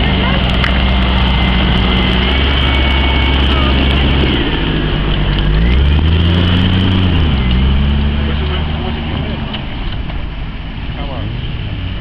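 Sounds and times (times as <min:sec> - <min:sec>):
off-road car engine revving: 0:00.0 - 0:12.0.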